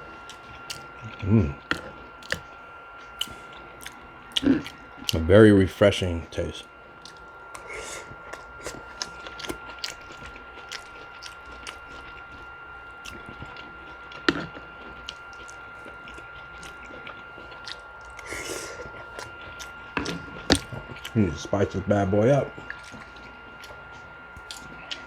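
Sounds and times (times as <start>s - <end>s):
person chewing: 0.0s - 5.3s, 7.0s - 21.7s, 22.5s - 25.0s.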